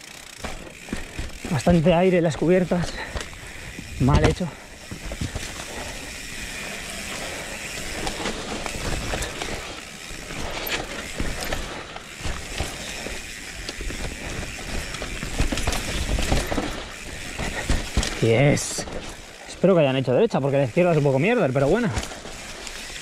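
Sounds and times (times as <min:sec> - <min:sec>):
bike rattling: 0:00.0 - 0:23.0
bike tyres rumbling over dirt: 0:00.0 - 0:23.0.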